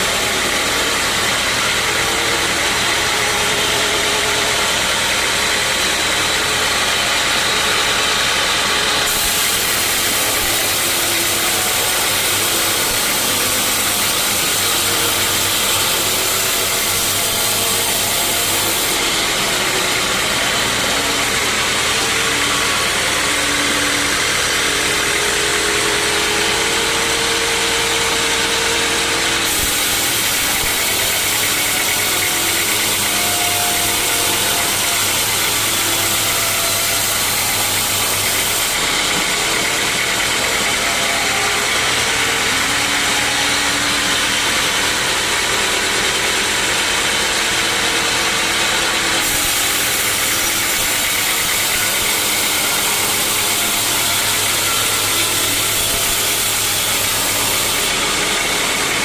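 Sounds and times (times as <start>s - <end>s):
sawmill machinery sawing logs: 0.0s - 59.0s.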